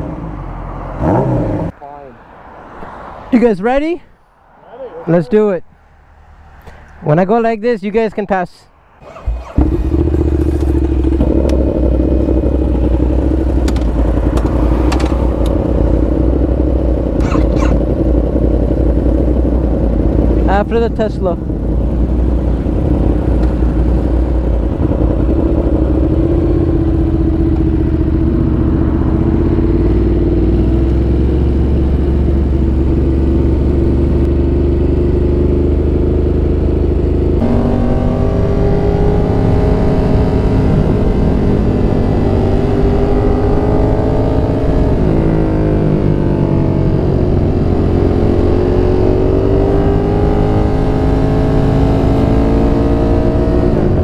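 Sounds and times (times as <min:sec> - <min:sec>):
motorcycle engine running: 0:09.0 - 0:54.0.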